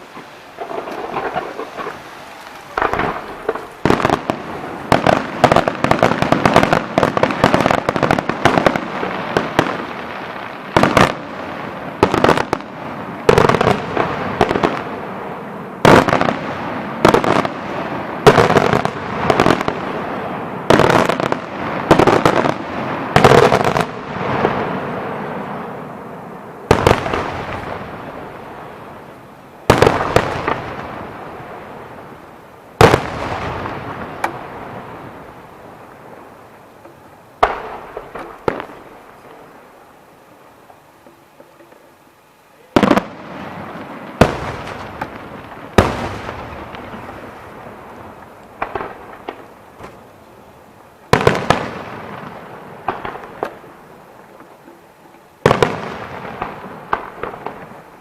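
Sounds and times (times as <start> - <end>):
fireworks crackling bangs: 0.0 - 58.0.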